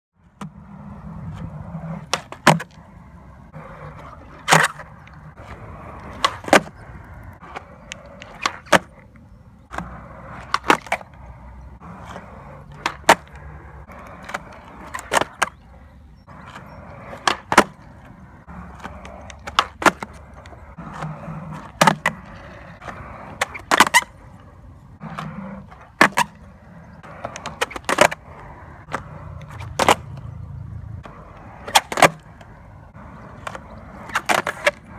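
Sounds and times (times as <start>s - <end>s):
skateboard wheels rolling on concrete: 0.1s - 34.9s
skateboard clacks: 0.3s - 34.9s.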